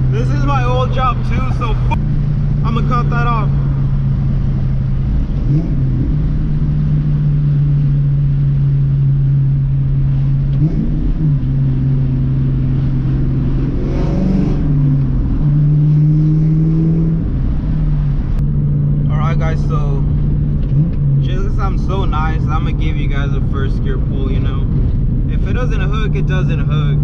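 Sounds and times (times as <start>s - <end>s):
car exhaust droning: 0.0s - 27.0s.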